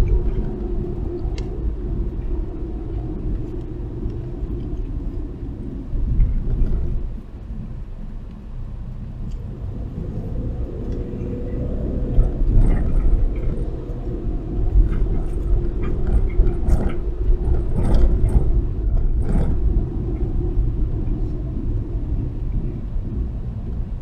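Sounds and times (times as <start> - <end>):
car interior road rumble: 0.0 - 24.0.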